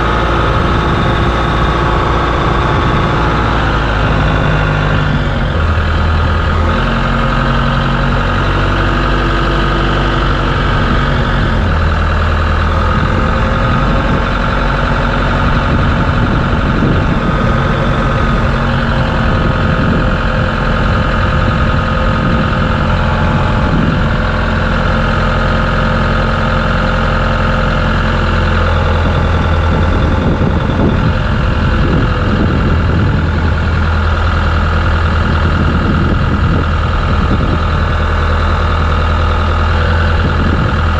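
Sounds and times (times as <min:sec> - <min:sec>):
crane working: 0:00.0 - 0:40.9
truck engine running: 0:00.0 - 0:40.9.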